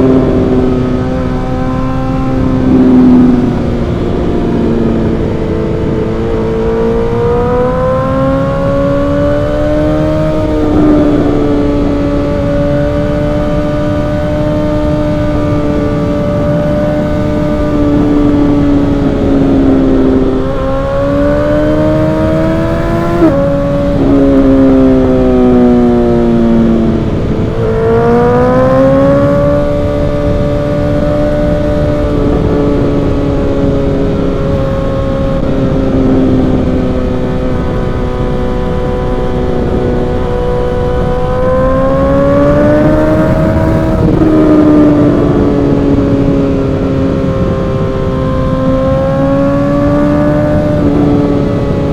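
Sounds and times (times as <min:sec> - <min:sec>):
motorcycle engine revving: 0:00.0 - 0:51.9
wind rush: 0:00.0 - 0:51.9.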